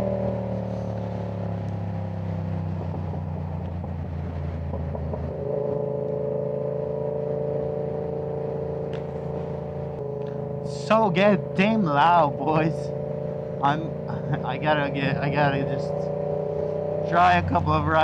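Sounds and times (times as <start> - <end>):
motorcycle engine with loud exhaust: 0.0 - 18.0.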